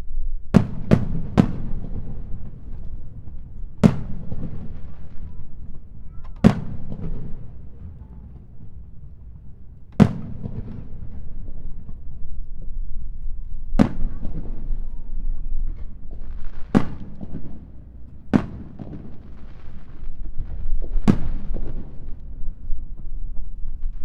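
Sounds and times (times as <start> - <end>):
fireworks booming: 0.3 - 24.0
fireworks crackle: 0.6 - 24.0.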